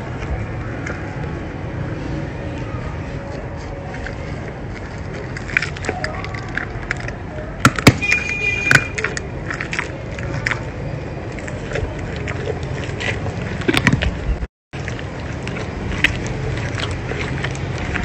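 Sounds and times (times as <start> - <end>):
lion crunching on bone: 3.2 - 18.0.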